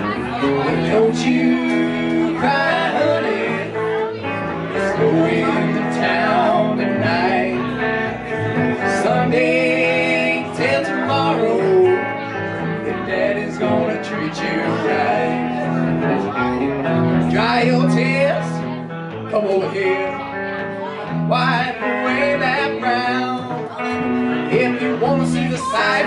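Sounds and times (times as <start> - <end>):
electric guitar: 0.0 - 26.0
man singing: 0.0 - 26.0
upright bass: 0.0 - 26.0.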